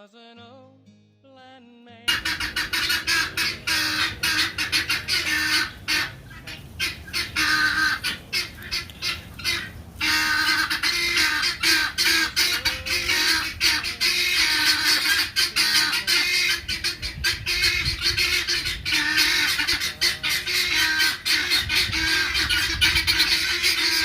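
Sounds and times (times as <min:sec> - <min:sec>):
guinea fowl alarm calls: 0:02.1 - 0:24.0.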